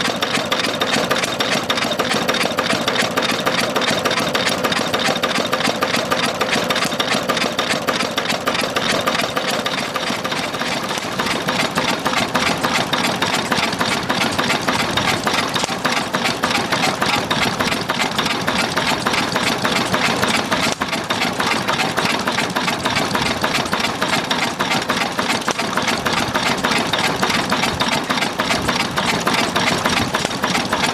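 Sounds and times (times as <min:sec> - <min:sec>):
diesel engine clattering: 0:00.0 - 0:30.9.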